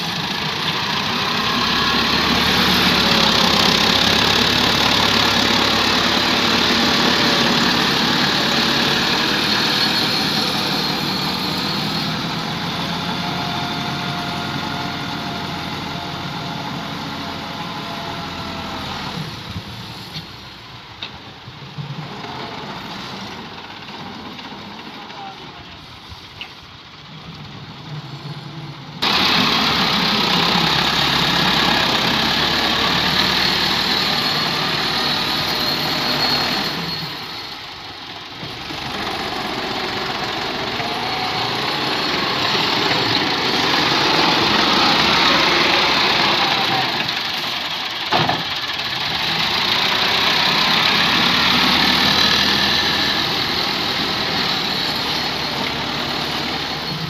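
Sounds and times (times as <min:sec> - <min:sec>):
tractor diesel engine running hard: 0:00.0 - 0:57.0.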